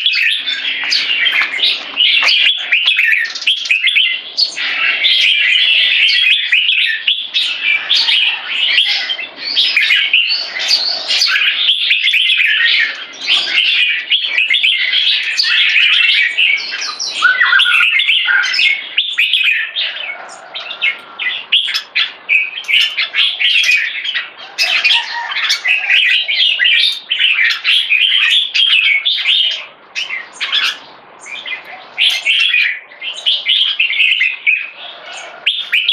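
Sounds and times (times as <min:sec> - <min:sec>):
bird chirping song: 0:00.0 - 0:35.9.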